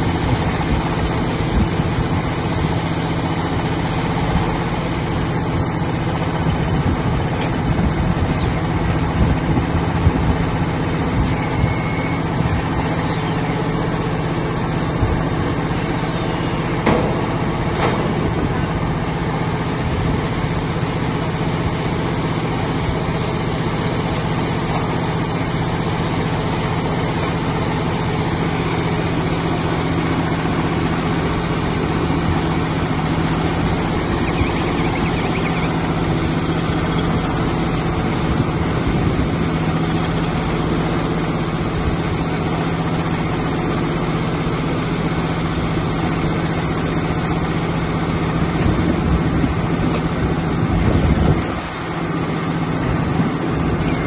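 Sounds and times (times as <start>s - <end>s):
baler wrapper machine humming: 0.0s - 54.0s.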